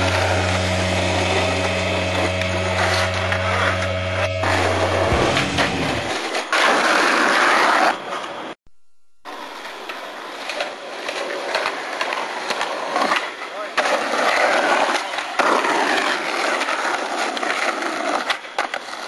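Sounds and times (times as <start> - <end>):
skateboard wheels rolling on concrete: 0.0 - 8.6, 9.3 - 19.0.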